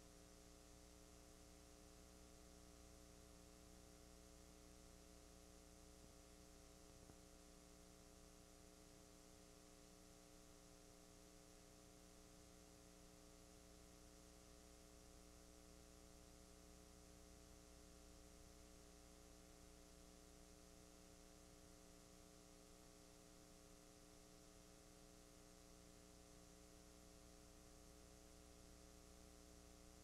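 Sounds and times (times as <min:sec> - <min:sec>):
faint electrical hum with hiss: 0:00.0 - 0:30.0.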